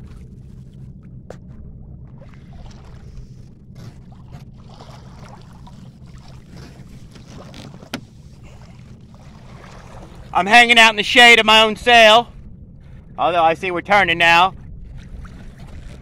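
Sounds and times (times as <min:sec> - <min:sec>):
water lapping against hull: 0:00.0 - 0:16.0
wind rumble on microphone: 0:00.0 - 0:16.0.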